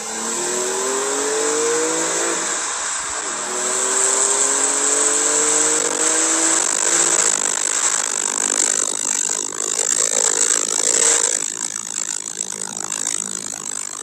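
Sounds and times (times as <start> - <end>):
car engine accelerating hard: 0.0 - 13.6.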